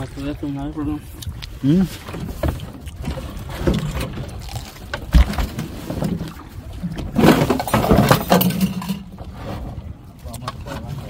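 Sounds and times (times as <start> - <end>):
gear clattering on boat: 1.9 - 11.0.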